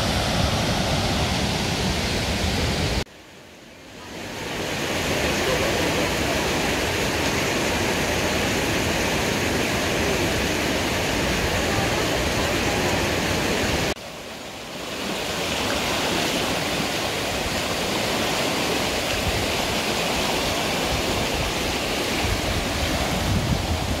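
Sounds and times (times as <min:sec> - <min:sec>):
brook rushing water: 0:00.0 - 0:24.0.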